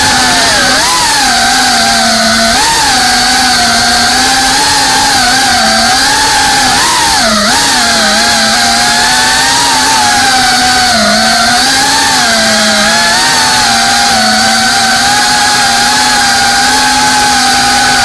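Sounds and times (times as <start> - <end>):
quadcopter motors buzzing: 0.0 - 18.0.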